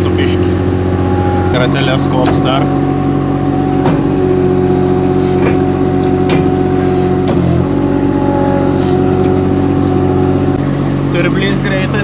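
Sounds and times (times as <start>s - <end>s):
hydraulic pump whine: 0.0s - 12.0s
loader engine running: 0.0s - 12.0s.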